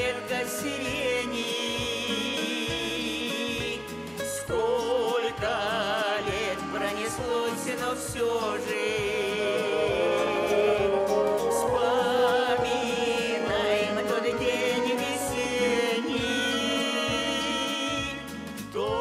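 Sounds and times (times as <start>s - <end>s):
instrumental backing with beat: 0.0s - 19.0s
person singing with vibrato: 0.0s - 19.0s.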